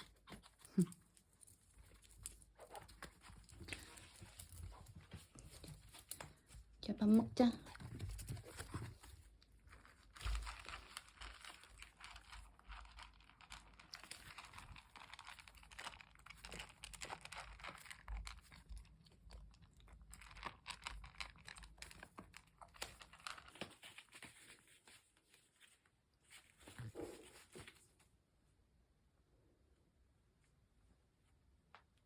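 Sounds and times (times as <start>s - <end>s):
faint crinkling and rustling: 0.0s - 28.4s.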